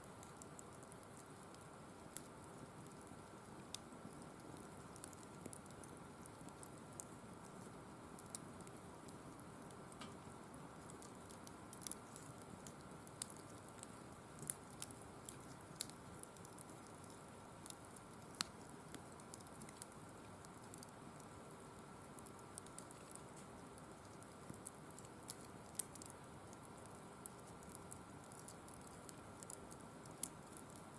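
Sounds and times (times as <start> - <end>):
firewood crackling and popping: 0.1 - 30.9.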